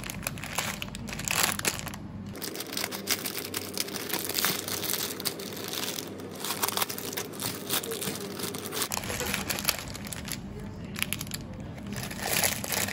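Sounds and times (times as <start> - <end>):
dry noodles crunching: 0.0 - 12.9
plastic wrapper crinkling: 0.0 - 12.9.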